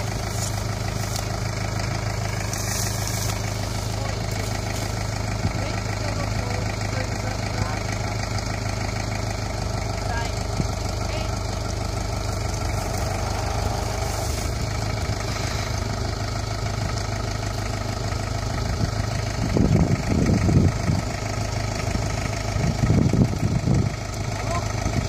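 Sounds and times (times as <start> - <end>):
diesel tractor engine idling: 0.0 - 25.0.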